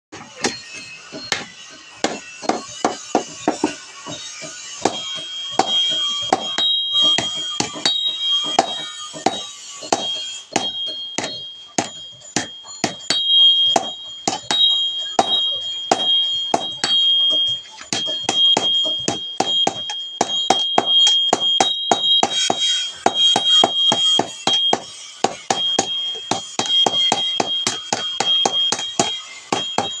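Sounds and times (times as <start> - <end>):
steady high ringing tone: 0.1 - 30.0
hammer striking metal on anvil: 0.2 - 30.0.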